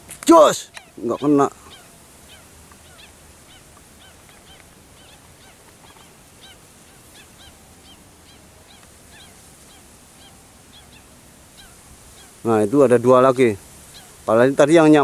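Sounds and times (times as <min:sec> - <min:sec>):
background hiss: 0:00.0 - 0:15.0
faint bird chirping calls: 0:00.0 - 0:15.0.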